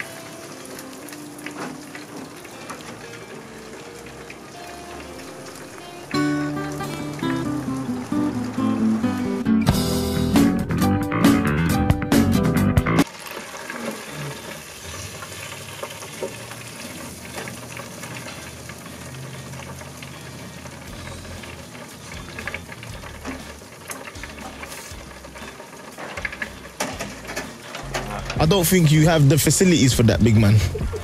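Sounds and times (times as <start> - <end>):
oil sizzling and crackling: 0.0 - 11.7, 12.3 - 31.0.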